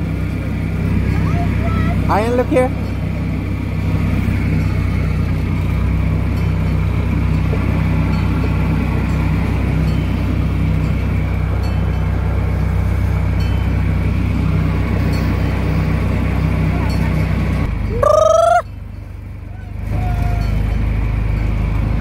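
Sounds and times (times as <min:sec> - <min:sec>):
miniature train engine droning: 0:00.0 - 0:22.0.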